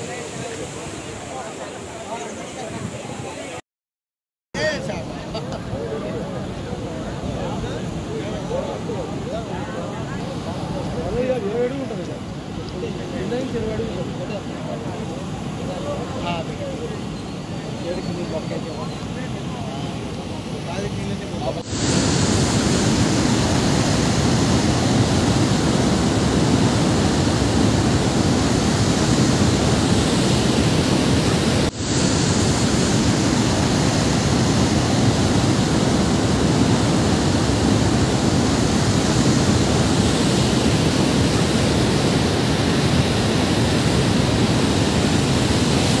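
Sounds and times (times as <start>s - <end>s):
floodwater rushing in river: 0.0s - 3.6s, 4.6s - 46.0s.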